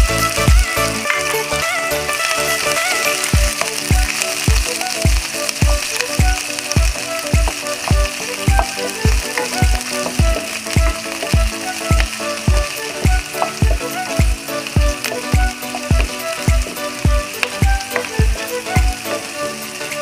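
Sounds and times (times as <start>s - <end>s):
background music beat: 0.0s - 20.0s
onion sizzling in hot oil: 0.0s - 20.0s.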